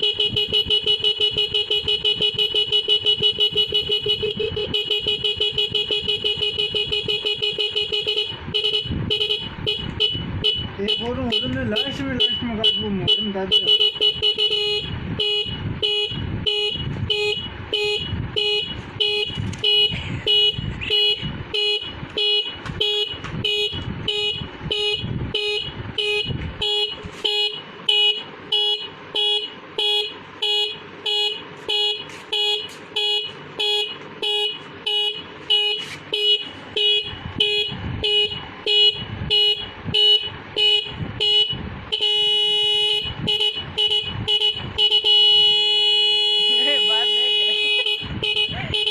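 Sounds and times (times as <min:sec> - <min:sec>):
motorcycle horn beeping: 0:00.0 - 0:48.9.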